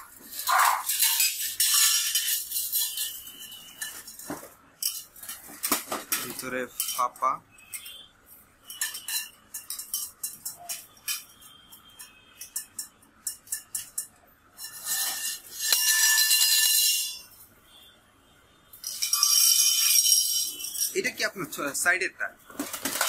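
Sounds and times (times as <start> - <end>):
ringing metal clatter: 0.0 - 17.4, 18.8 - 21.2
metal tubes clinking and tapping: 0.0 - 17.5, 18.7 - 21.8, 22.6 - 23.0.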